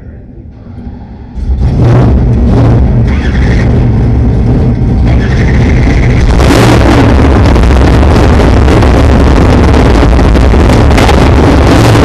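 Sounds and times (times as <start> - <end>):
race car engine revving: 0.6 - 12.0.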